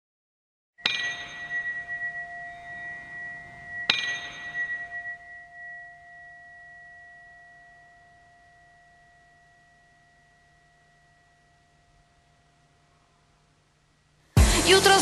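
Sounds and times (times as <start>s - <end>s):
chime ringing: 0.8s - 13.2s.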